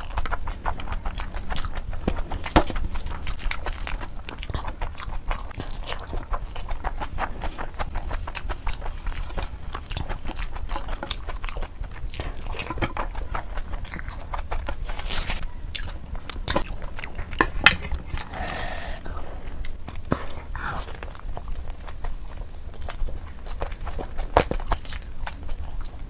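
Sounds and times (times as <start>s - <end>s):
close chewing and mouth clicks: 0.0s - 26.0s.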